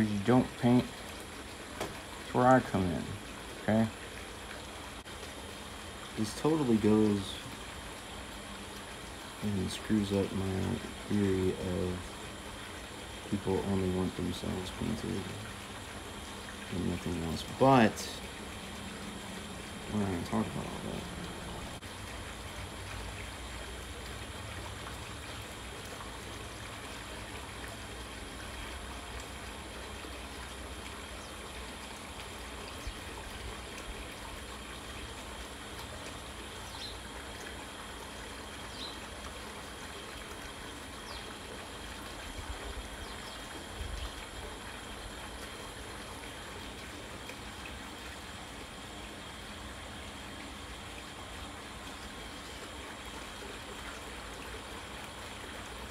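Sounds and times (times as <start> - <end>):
background hiss: 0.0 - 55.9
faint hum and whine: 0.0 - 55.9.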